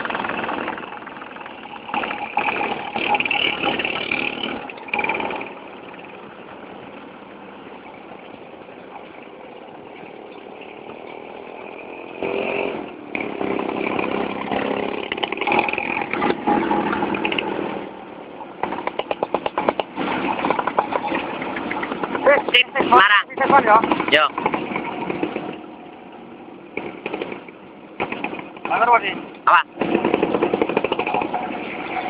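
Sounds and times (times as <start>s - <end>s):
scooter engines running: 0.0s - 32.0s.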